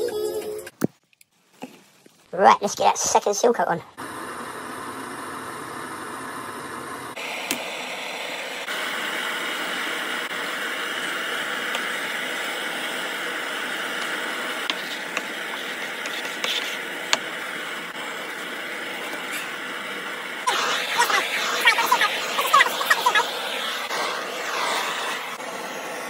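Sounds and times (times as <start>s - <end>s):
blowtorch hissing: 4.0s - 26.0s.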